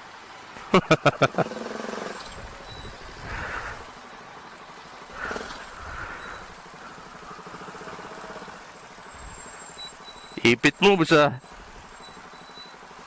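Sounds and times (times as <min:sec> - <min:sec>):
motorcycle engine at low revs: 0:00.0 - 0:10.8, 0:11.4 - 0:13.0.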